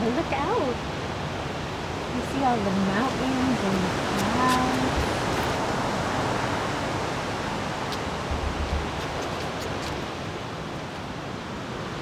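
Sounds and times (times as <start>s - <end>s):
steady rushing noise: 0.1s - 12.0s.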